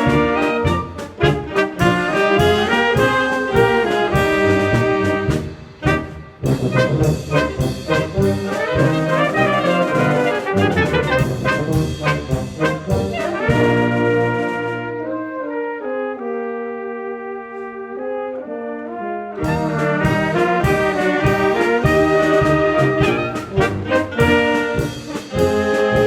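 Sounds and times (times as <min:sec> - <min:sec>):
drum beats: 0:00.0 - 0:14.6, 0:19.4 - 0:26.0
brass band playing polka: 0:00.0 - 0:26.0.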